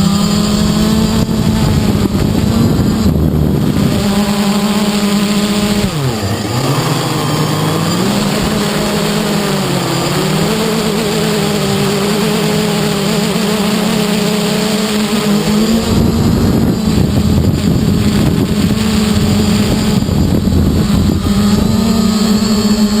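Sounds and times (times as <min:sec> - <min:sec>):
wind buffeting microphone: 0:00.0 - 0:13.7, 0:15.0 - 0:23.0
drone motors whining: 0:00.0 - 0:23.0.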